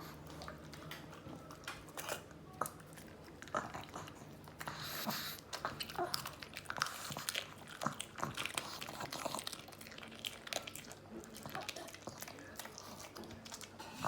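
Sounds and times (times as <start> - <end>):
dog chewing and crunching: 0.0 - 14.0.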